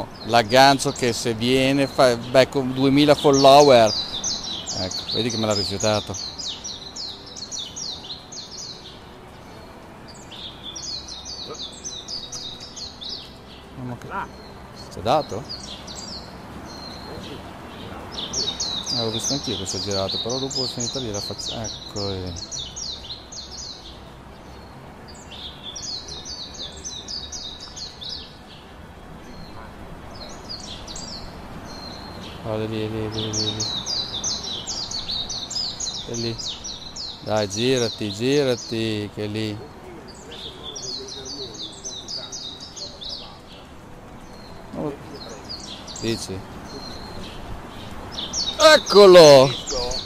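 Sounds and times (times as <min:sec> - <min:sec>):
songbird singing high notes: 0:00.0 - 0:50.0.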